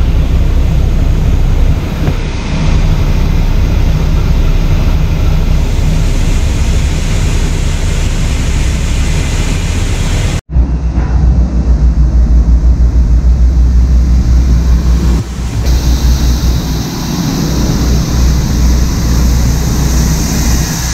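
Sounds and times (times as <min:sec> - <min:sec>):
truck engine humming: 0:00.0 - 0:20.9.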